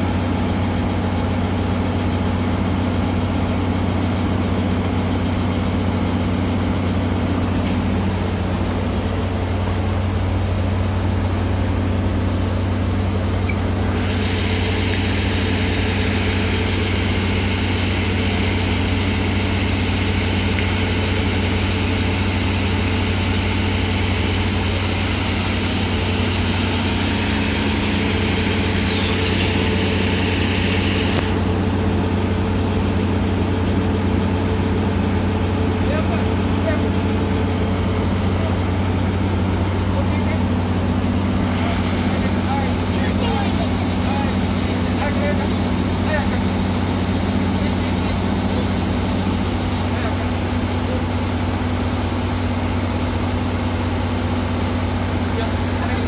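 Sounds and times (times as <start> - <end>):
diesel locomotive idling: 0.0 - 56.0.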